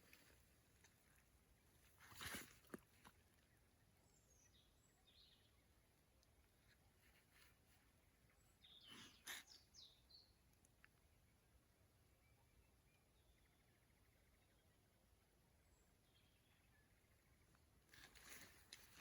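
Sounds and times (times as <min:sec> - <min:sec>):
faint bird chirps: 0:01.1 - 0:19.0.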